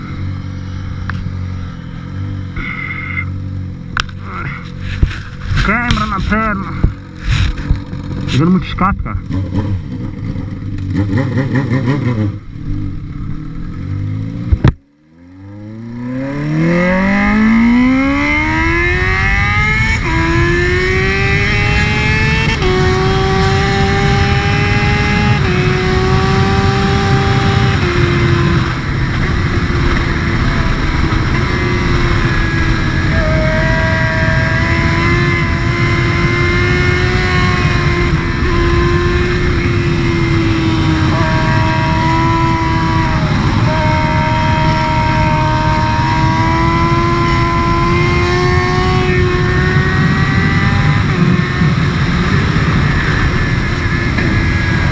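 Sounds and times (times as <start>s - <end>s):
motorcycle engine revving: 0.0s - 54.9s
wind noise rumble: 3.6s - 14.8s, 15.7s - 54.9s.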